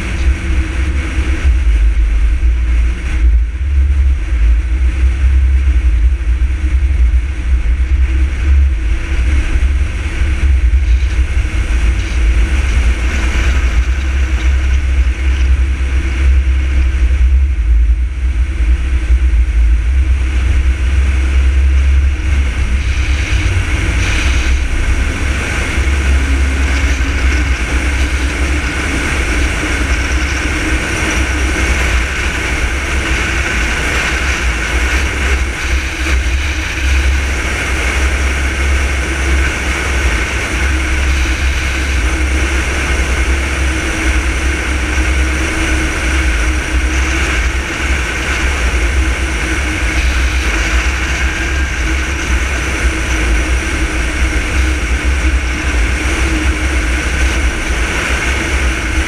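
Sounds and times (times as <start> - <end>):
car engine hum: 0.0 - 59.0
wind and road noise: 0.0 - 59.0.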